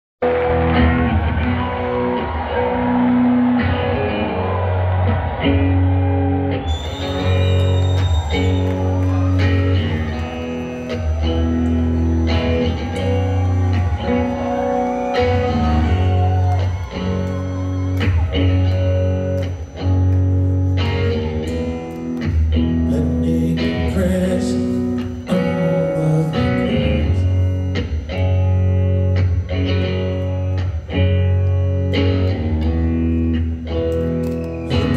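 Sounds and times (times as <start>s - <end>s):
bass line: 0.2s - 34.9s
electric guitar picking chords: 0.2s - 34.9s.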